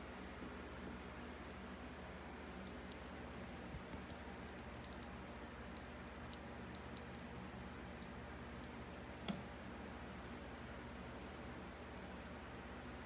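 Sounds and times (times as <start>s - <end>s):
faint jingling and ticks: 0.0s - 13.0s
steady low hum: 0.0s - 13.0s.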